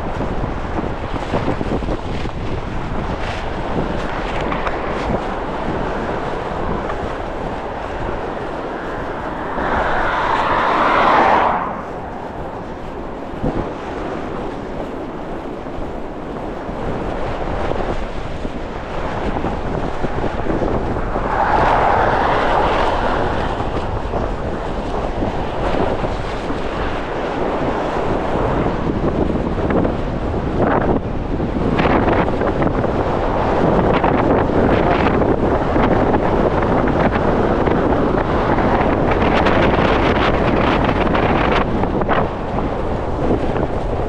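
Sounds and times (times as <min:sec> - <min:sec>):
strong wind buffeting microphone: 0:00.0 - 0:44.0.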